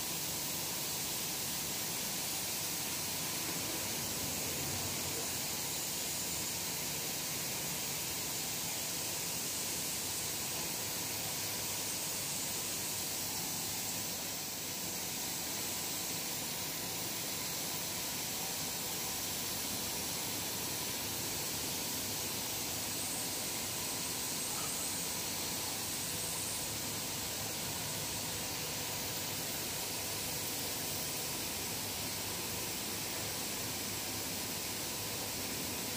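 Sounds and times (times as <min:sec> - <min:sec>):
hissing machinery: 0:00.2 - 0:35.9.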